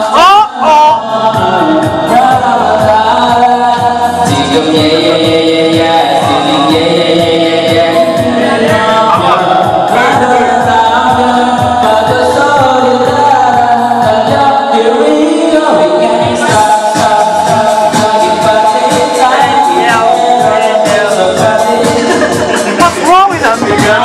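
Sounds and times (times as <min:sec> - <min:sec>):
backing track with beat: 0:00.0 - 0:24.0
man singing karaoke: 0:00.0 - 0:24.0.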